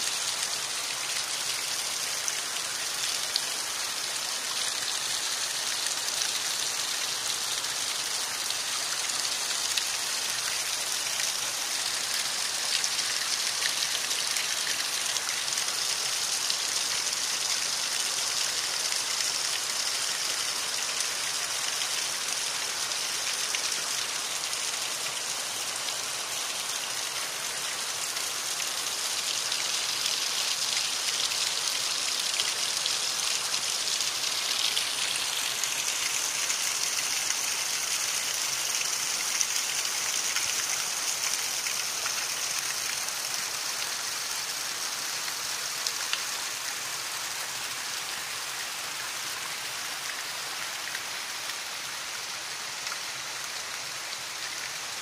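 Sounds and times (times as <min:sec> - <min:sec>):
waterfall splashing over rocks: 0:00.0 - 0:55.0.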